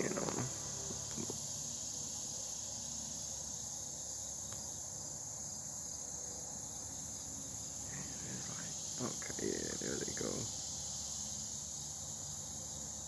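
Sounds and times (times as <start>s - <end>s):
insects singing high-pitched: 0.0s - 13.0s.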